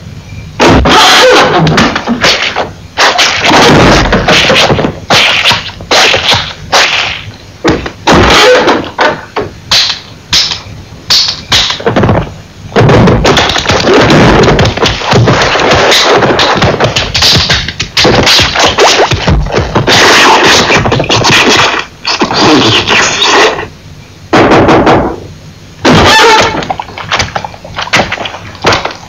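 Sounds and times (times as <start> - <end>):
harsh noise: 0.0 - 29.0
whacks and noisy bursts: 0.6 - 23.7, 24.3 - 29.0.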